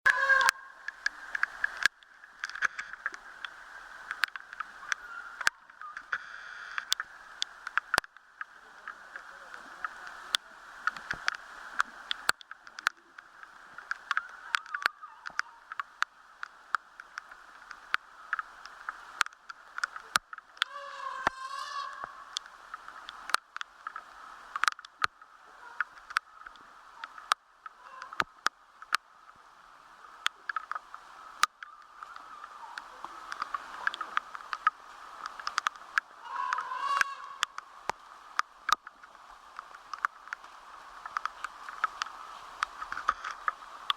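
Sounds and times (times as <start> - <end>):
heavy rain falling: 0.1 - 43.9.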